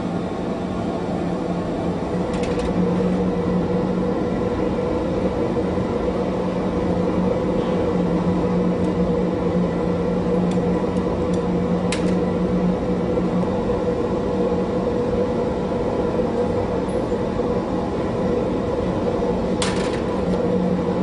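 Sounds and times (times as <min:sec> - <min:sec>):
blowers humming: 0:00.0 - 0:21.0.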